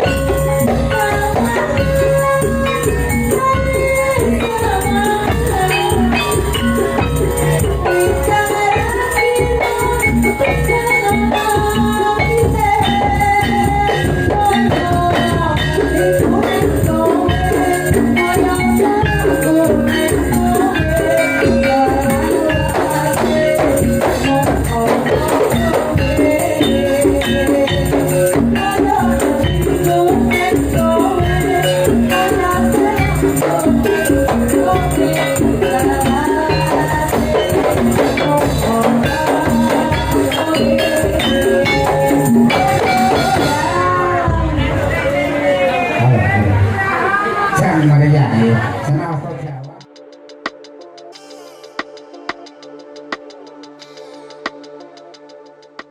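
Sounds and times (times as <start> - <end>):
jingling percussion: 0.0 - 45.3, 49.8 - 55.9
live band music: 0.0 - 55.9.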